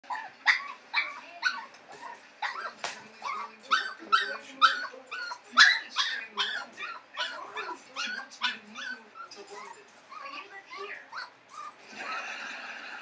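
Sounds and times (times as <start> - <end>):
puppy yipping: 0.1 - 11.8.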